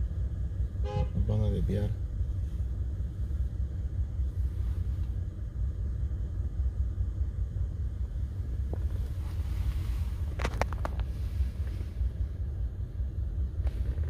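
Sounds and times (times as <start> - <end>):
car cabin engine and road hum: 0.0 - 14.0.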